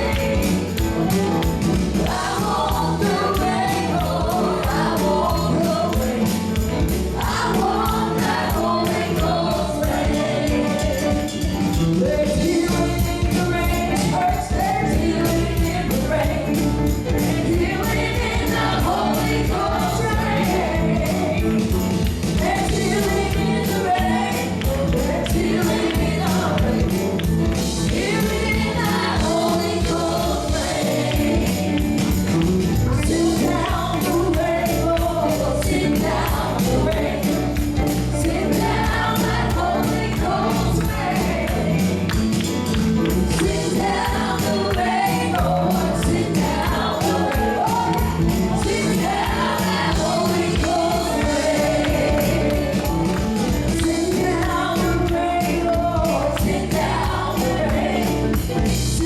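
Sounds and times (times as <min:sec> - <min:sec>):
choir singing gospel music: 0:00.0 - 0:59.0
tambourine shaken in rhythm: 0:00.0 - 0:59.0.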